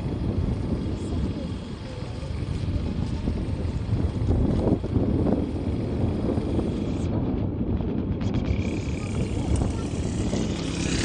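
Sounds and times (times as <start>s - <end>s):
vehicle engine rumbling: 0.0s - 11.0s
wind buffeting microphone: 0.0s - 11.0s.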